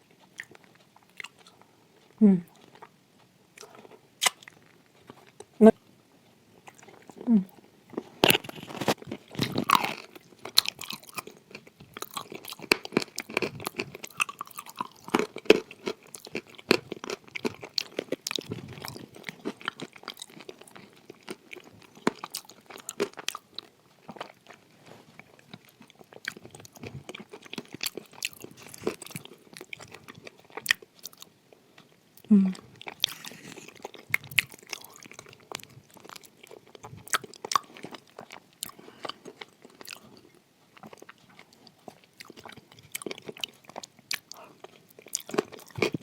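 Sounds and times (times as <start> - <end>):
chewing and crunching clay: 0.0 - 5.6, 6.6 - 46.0.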